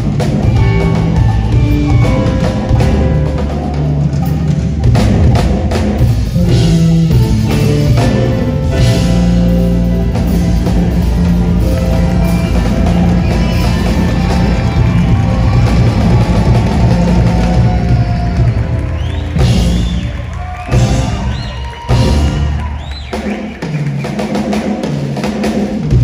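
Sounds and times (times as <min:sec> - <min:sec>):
electric bass: 0:00.0 - 0:23.0
drum kit groove: 0:00.0 - 0:26.0.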